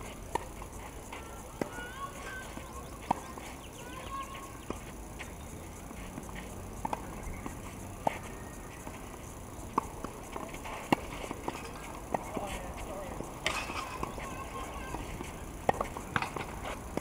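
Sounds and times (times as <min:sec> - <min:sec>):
outdoor background noise: 0:00.0 - 0:17.0
tennis balls struck with rackets: 0:00.0 - 0:17.0.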